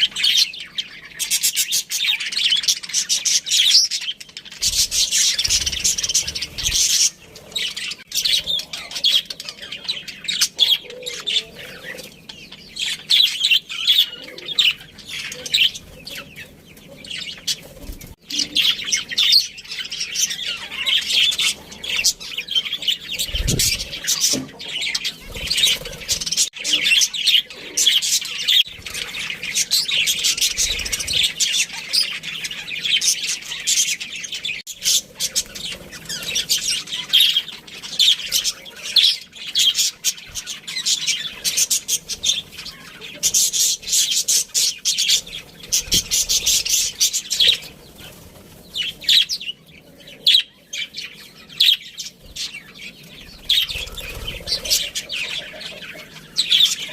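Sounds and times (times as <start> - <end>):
budgerigars chirping: 0.0 - 56.9.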